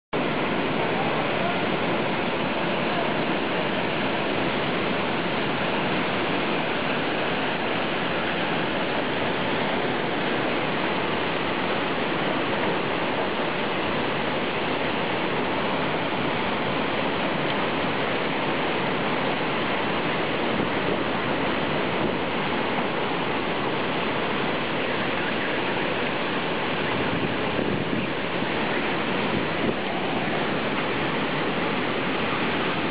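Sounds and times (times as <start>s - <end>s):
strong wind rushing through trees: 0.2s - 32.9s.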